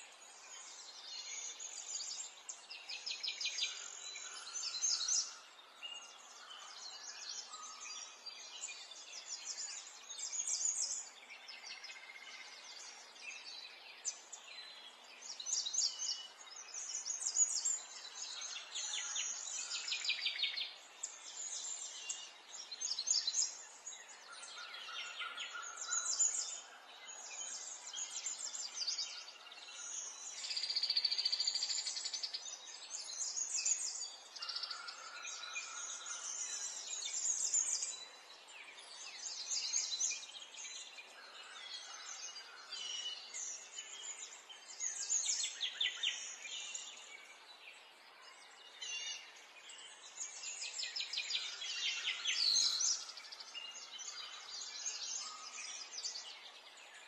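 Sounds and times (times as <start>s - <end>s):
birdsong chirps and trills: 0.0s - 57.0s.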